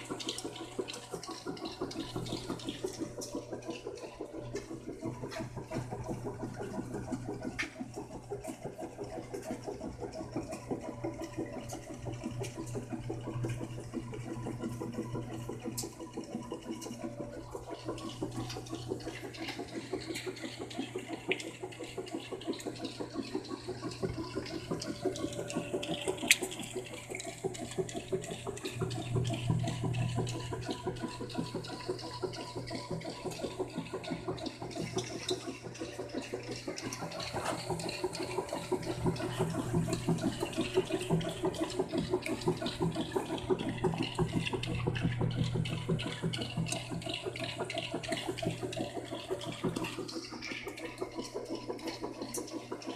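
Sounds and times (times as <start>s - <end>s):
washing machine motor hum: 0.0s - 52.9s.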